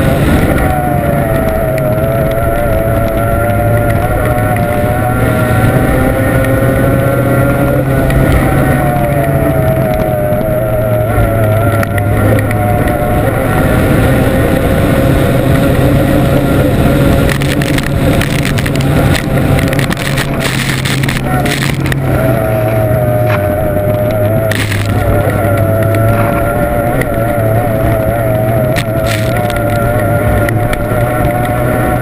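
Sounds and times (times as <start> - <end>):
powerboat engine running hard: 0.0 - 32.0
wind and water rush: 0.0 - 32.0.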